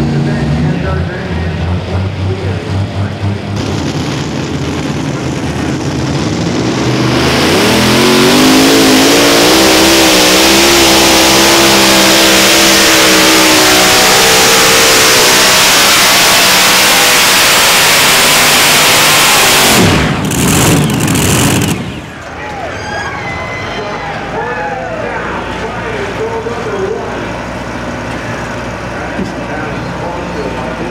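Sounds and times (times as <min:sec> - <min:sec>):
pulling tractor engines revving: 0:00.0 - 0:30.9.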